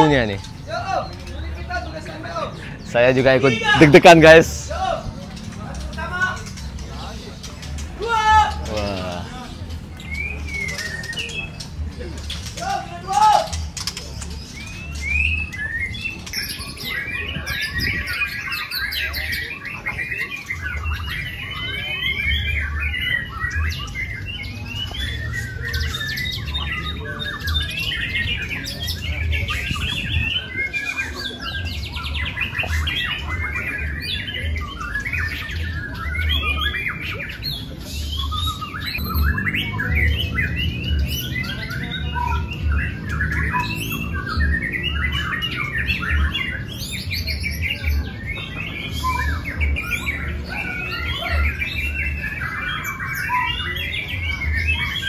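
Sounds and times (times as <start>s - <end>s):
chorus of songbirds singing: 0.0s - 55.0s.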